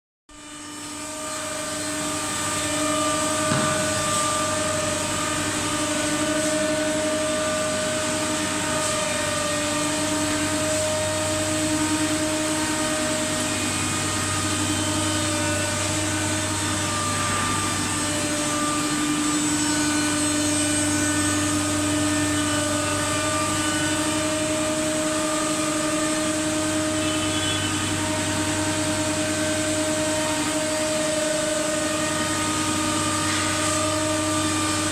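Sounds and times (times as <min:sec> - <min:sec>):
router machine whining: 0:00.3 - 0:34.9.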